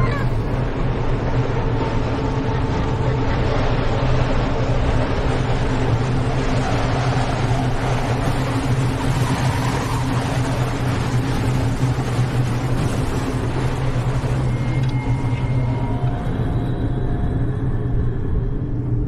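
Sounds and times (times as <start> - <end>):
deep hum with faint tones: 0.0 - 19.0.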